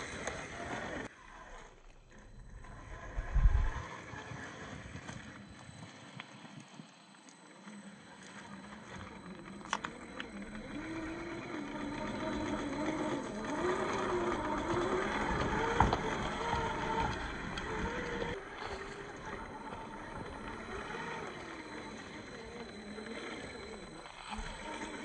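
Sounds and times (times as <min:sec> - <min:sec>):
toy car motor whining: 0:00.0 - 0:25.0.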